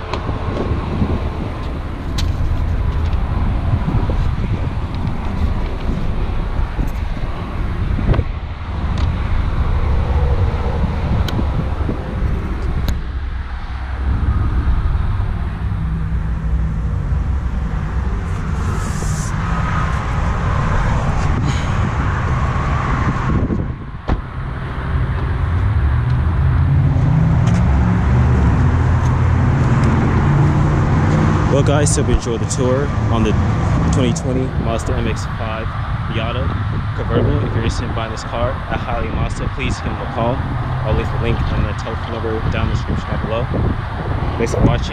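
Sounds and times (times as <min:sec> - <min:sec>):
road traffic noise: 0:00.0 - 0:44.9
wind on microphone: 0:00.0 - 0:44.9.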